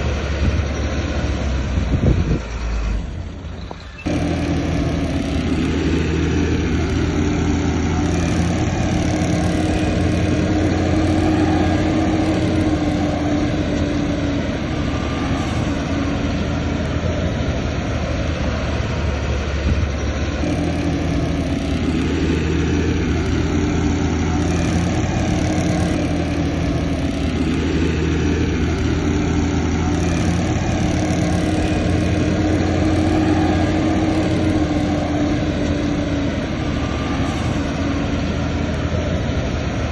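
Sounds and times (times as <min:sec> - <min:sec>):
heavy diesel machine engine: 0:00.0 - 0:39.9.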